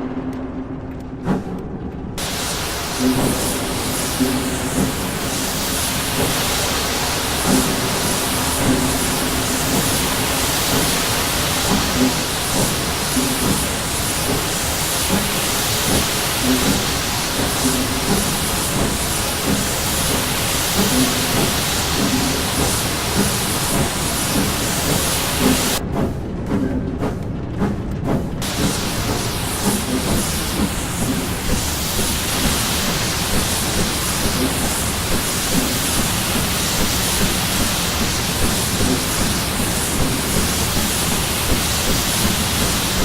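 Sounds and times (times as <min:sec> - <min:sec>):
steam locomotive exhaust beats: 0:00.0 - 0:43.0
steam hissing: 0:02.2 - 0:25.8, 0:28.4 - 0:43.0.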